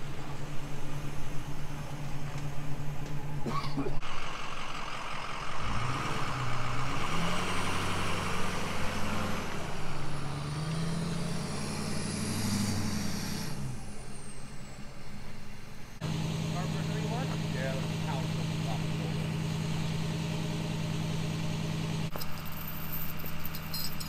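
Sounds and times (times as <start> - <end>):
truck engine pulling under load: 0.0 - 24.0.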